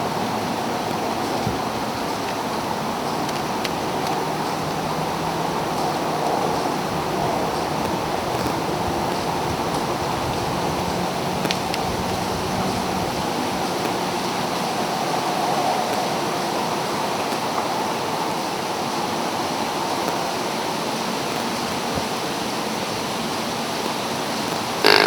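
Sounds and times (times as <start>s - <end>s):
strong wind through woods: 0.0s - 25.0s.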